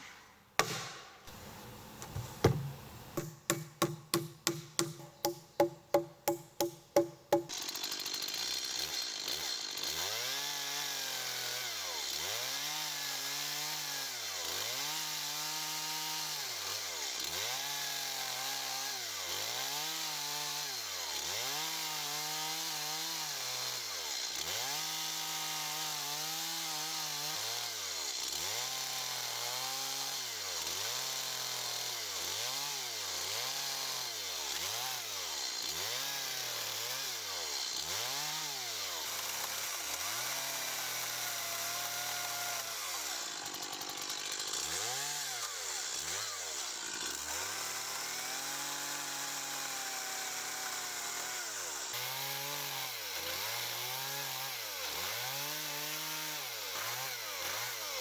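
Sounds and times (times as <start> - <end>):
chainsaw engine revving: 7.5 - 58.0.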